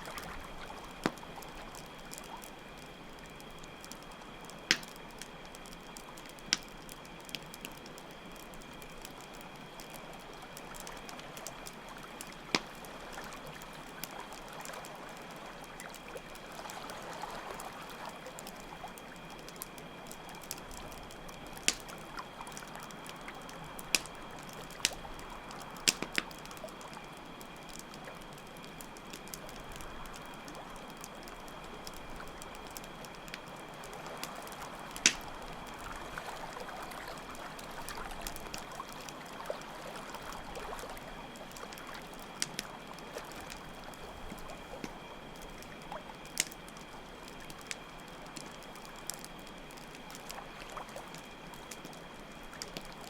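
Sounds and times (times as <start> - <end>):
campfire crackling and popping: 0.0 - 53.0
trickling stream: 9.5 - 53.0.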